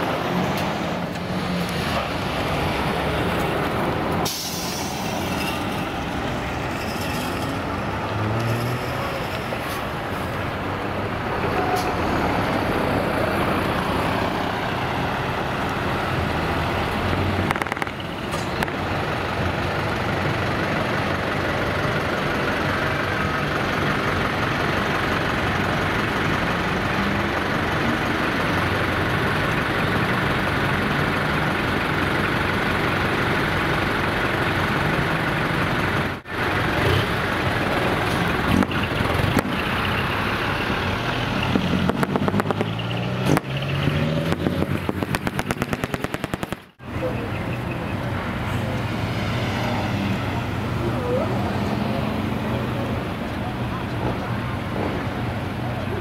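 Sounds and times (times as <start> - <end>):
heavy diesel trucks running: 0.0 - 56.0.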